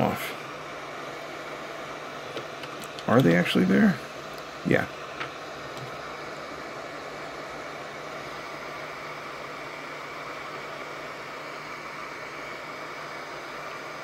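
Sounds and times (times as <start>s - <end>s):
hot air gun blowing: 0.0s - 14.0s.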